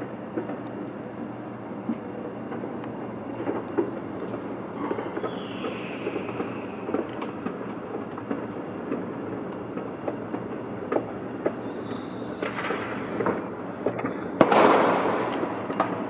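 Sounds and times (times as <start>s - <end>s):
firework pops and crackles: 0.0s - 0.9s, 1.8s - 16.0s
distant fireworks rumble: 0.0s - 16.0s.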